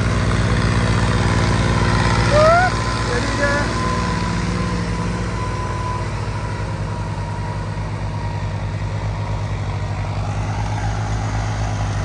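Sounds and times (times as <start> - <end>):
diesel tractor engines running: 0.0 - 12.0.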